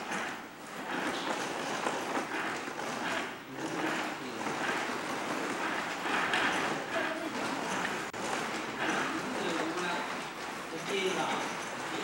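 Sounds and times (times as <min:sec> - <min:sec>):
wooden braiding machine clattering: 0:00.0 - 0:12.0.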